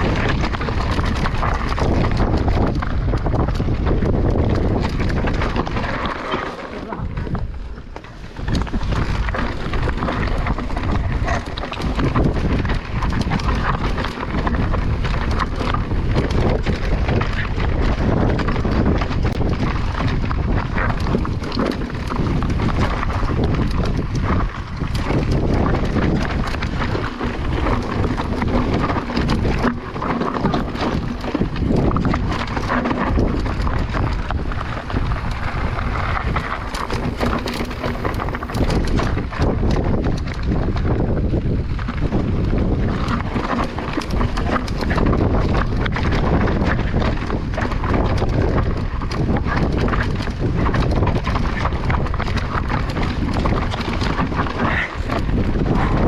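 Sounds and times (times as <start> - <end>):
bike rattling: 0.0 - 56.0
tyres rolling over loose stones: 0.0 - 56.0
wind buffeting microphone: 0.0 - 56.0.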